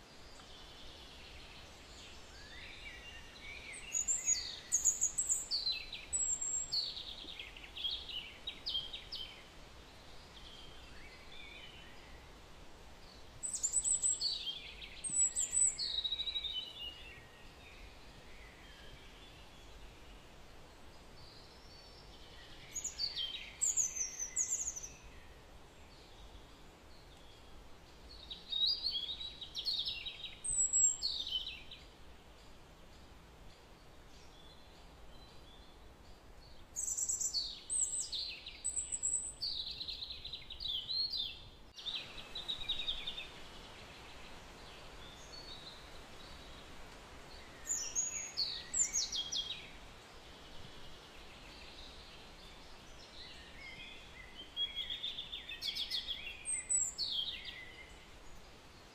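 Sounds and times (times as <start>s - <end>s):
faint background noise: 0.0s - 58.9s
songbird singing: 0.0s - 58.9s.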